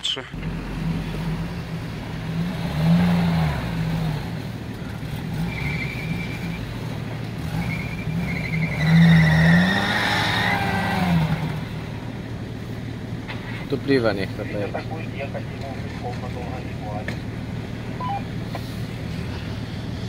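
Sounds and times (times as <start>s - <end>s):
off-road engine revving: 0.0s - 20.0s
tyres spinning whine: 0.0s - 20.0s.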